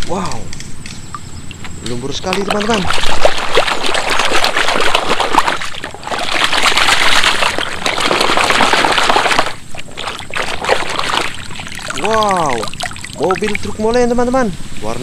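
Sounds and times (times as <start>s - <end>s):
muddy water splashing: 1.1s - 14.4s.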